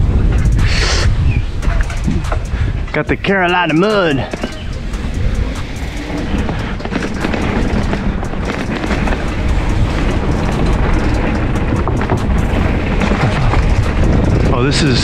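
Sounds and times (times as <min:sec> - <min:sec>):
bike rattling: 0:00.0 - 0:15.0
wind rumbling on microphone: 0:00.0 - 0:15.0
bike tyres clattering over boards: 0:01.4 - 0:15.0.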